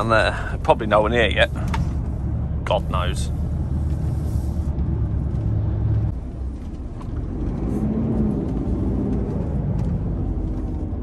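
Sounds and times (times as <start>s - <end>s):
lorry diesel engine running: 0.0s - 11.0s.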